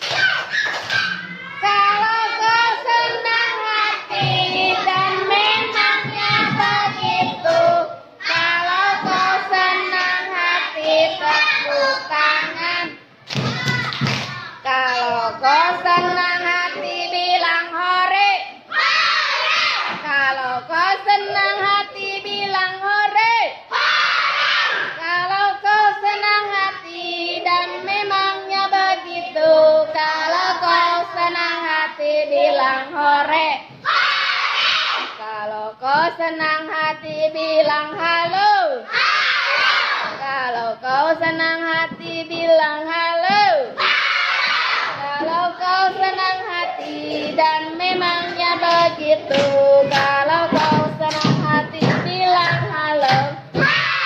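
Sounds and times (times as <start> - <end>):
young children singing: 0.0 - 54.0.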